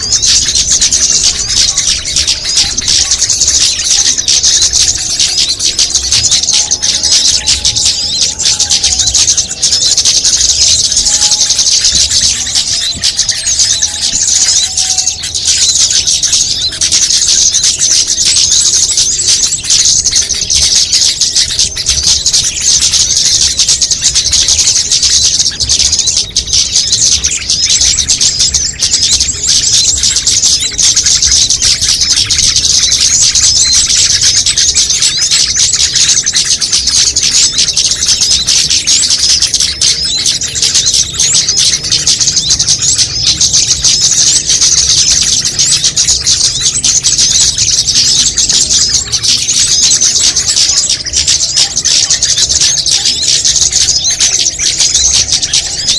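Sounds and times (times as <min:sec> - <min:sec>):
small songbirds chirping: 0:00.0 - 0:55.9.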